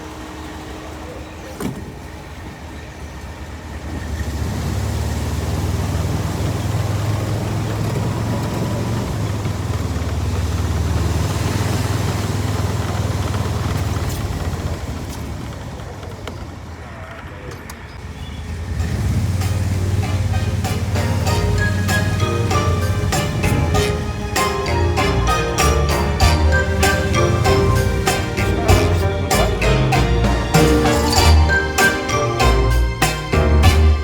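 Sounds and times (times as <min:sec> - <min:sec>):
motor vehicle rumbling: 0:00.0 - 0:34.0.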